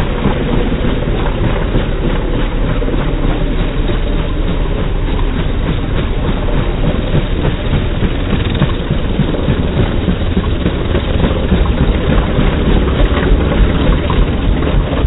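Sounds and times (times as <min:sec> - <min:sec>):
helicopter engine noise: 0:00.0 - 0:15.0
helicopter rotor beating: 0:00.0 - 0:15.0.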